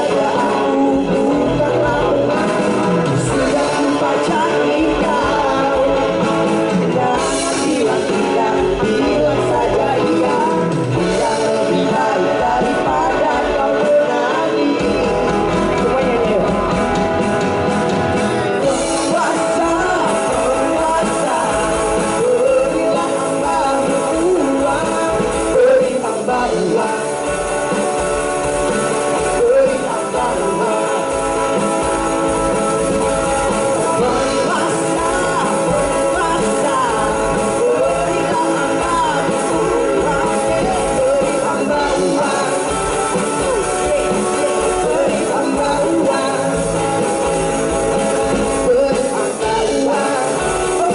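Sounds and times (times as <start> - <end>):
amplified electric guitars: 0.0 - 50.9
drums: 0.0 - 50.9
rock band playing: 0.0 - 50.9
singers singing: 0.0 - 50.9.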